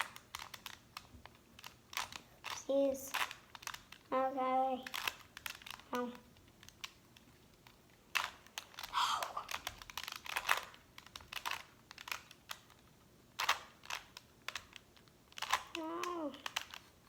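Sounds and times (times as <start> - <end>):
puzzle cube plastic clicks: 0.0 - 17.0.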